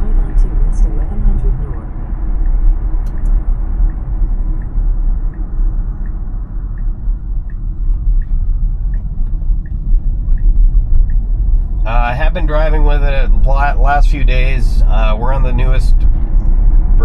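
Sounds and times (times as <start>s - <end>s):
turn signal ticking: 0.0s - 17.0s
tyre and road rumble: 0.0s - 17.0s.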